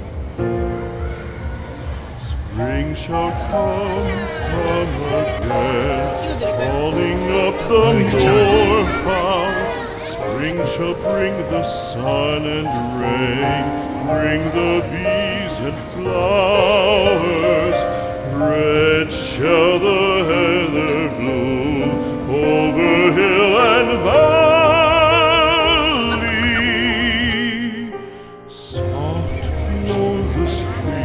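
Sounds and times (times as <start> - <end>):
operatic voice singing: 2.2 - 31.0
musical accompaniment: 2.6 - 31.0.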